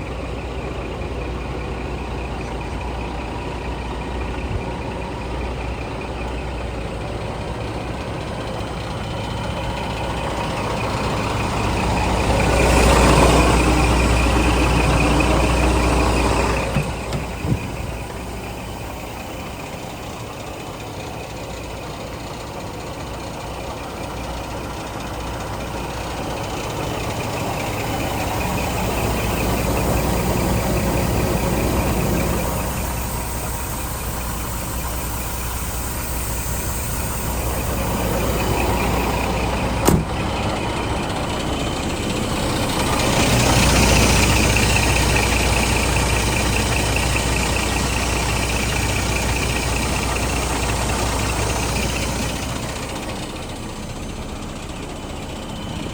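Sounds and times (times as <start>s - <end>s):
truck diesel engine idling: 0.0s - 55.9s.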